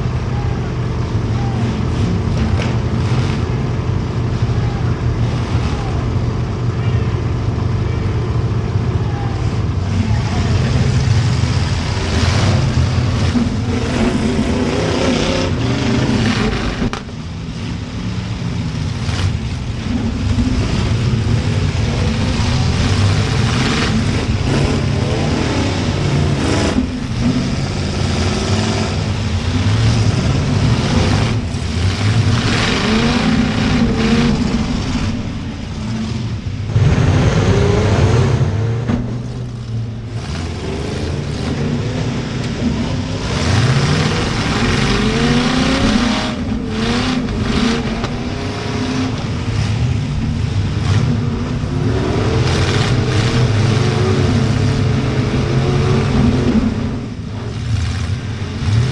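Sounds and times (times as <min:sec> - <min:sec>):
car engines revving: 0:00.0 - 0:58.9.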